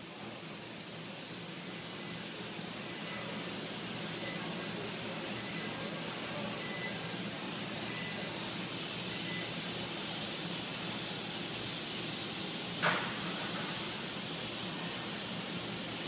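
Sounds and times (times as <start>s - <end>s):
steady hissing noise: 0.0s - 16.0s.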